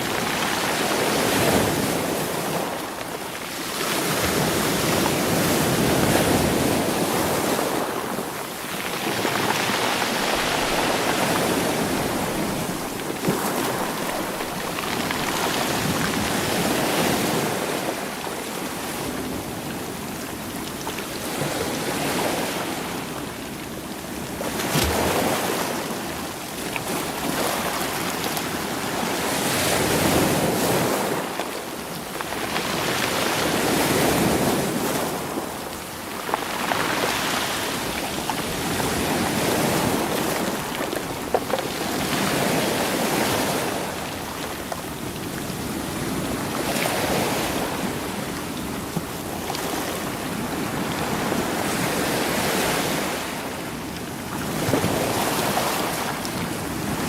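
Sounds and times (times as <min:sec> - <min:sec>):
sea waves over stones: 0:00.0 - 0:57.0.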